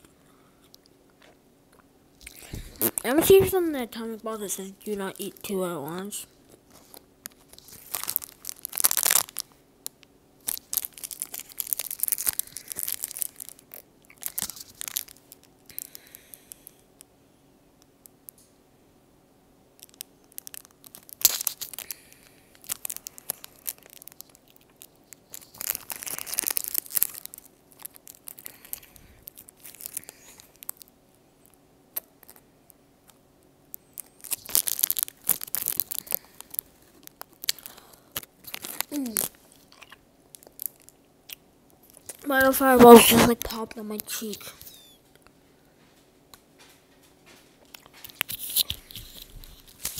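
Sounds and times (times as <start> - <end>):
cellophane wrapper crinkling: 2.2 - 16.7, 19.8 - 31.0, 32.0 - 45.3, 46.6 - 49.9.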